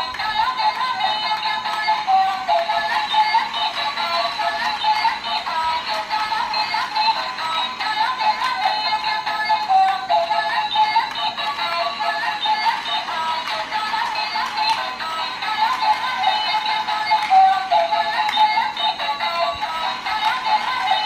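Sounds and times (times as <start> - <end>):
tinny electronic toy melody: 0.0 - 21.0.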